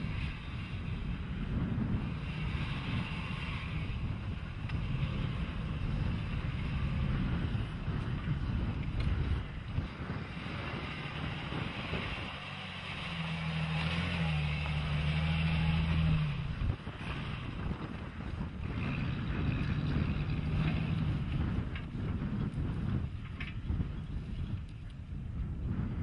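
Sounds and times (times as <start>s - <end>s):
car engine driving off-road: 0.0s - 26.0s
wind buffeting microphone: 0.0s - 26.0s.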